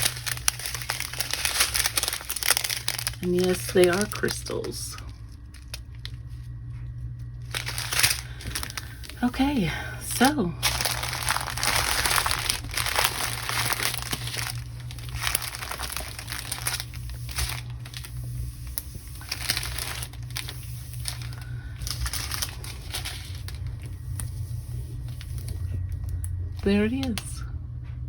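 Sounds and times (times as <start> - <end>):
plastic packaging crinkling: 0.0 - 27.2
steady low hum: 0.0 - 28.0.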